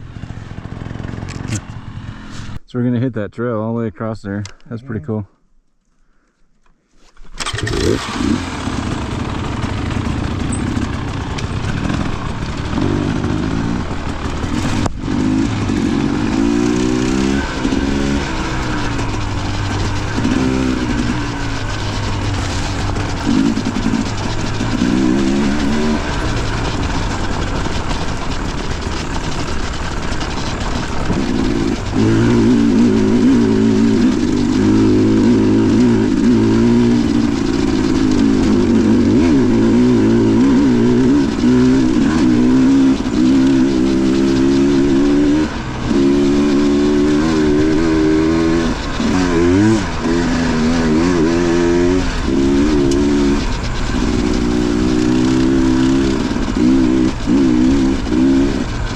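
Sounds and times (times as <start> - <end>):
dirt bike engine revving: 0.0 - 2.6, 7.3 - 58.9.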